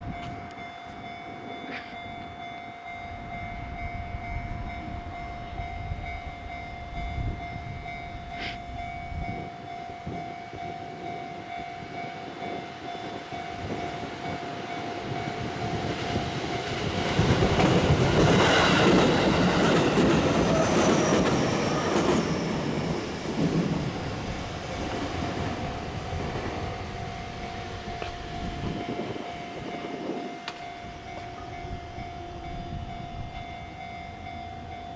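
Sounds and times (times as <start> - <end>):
electric train arriving: 0.0 - 34.9
steady high tone: 0.1 - 34.9.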